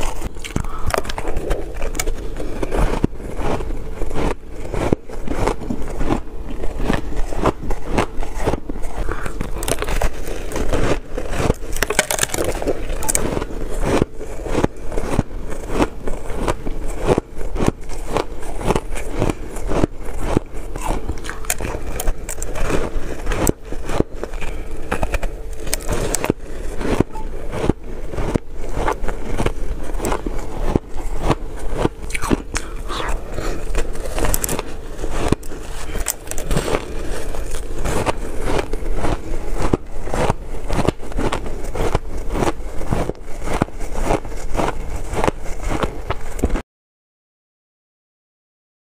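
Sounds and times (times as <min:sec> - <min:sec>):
ice crunching while chewed: 0:00.0 - 0:46.6.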